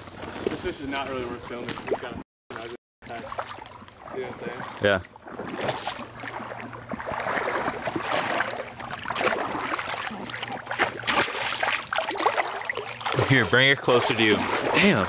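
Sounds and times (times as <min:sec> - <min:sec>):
fish splashing in shallow water: 0:01.6 - 0:15.0.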